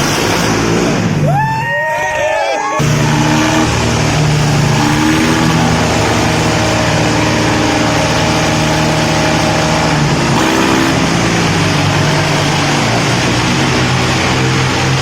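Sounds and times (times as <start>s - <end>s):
tractor engines running hard: 0.0s - 15.0s.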